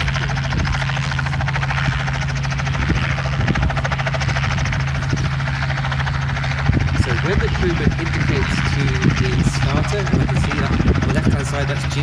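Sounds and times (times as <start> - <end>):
helicopter rotor chopping: 0.0 - 12.0
low engine hum: 0.0 - 12.0.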